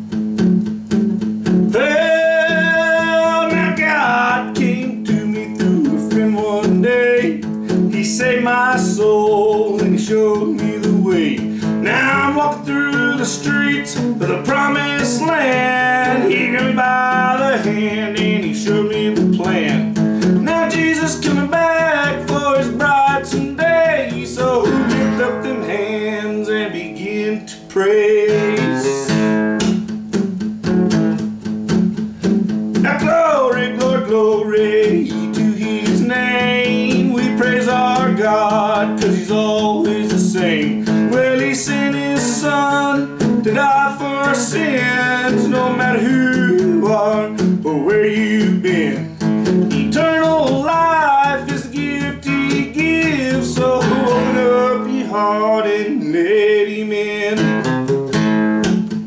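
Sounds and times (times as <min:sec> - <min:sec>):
acoustic guitar picking: 0:00.0 - 0:59.0
man singing: 0:01.7 - 0:29.4, 0:32.8 - 0:57.8.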